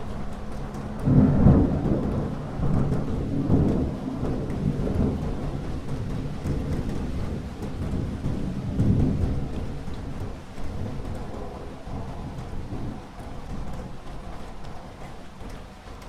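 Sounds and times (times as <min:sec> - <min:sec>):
thunder rumbling: 0:00.0 - 0:15.0
steady rain: 0:00.0 - 0:16.0.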